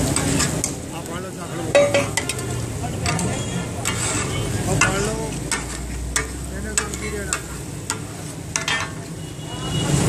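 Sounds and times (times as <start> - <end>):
metal spatulas clacking on griddle: 0.0 - 0.8, 1.7 - 9.1
meat sizzling on griddle: 0.0 - 9.2.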